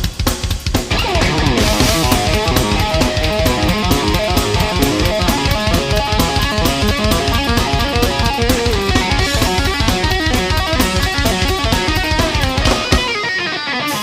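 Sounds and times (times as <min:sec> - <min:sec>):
fast drum beat: 0:00.0 - 0:13.4
electric guitar: 0:00.7 - 0:14.0.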